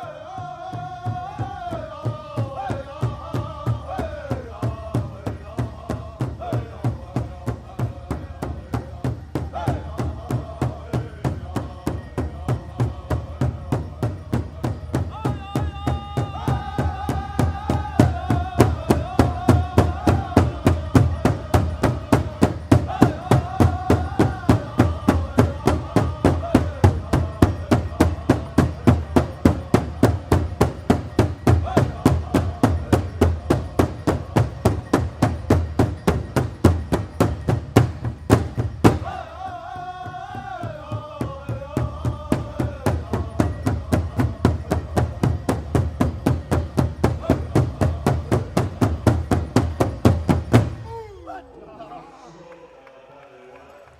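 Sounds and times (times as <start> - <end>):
singers in unison: 0.0 - 37.6, 38.4 - 53.9
big drum beating fast: 1.0 - 39.2, 40.0 - 50.8.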